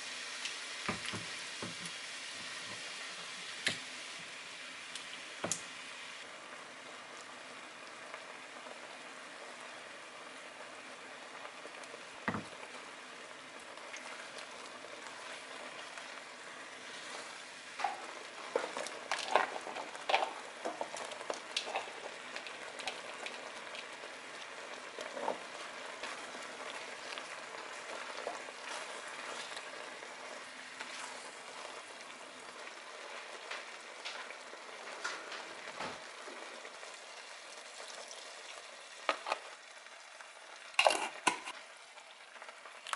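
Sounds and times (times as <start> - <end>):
sauce bubbling in a pan: 0.0 - 42.9.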